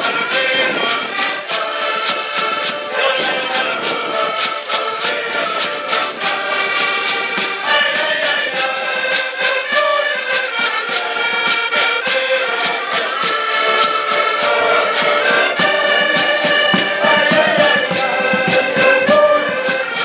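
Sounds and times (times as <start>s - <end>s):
button accordions playing folk tune: 0.0s - 20.0s
steady percussion beat: 0.0s - 20.0s.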